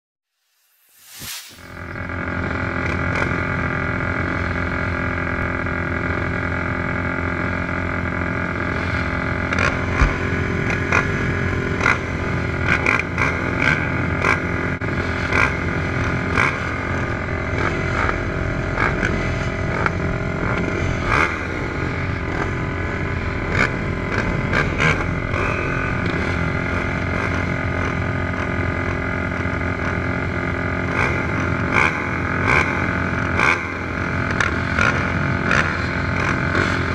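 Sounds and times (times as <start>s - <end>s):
engines idling: 1.7s - 36.9s.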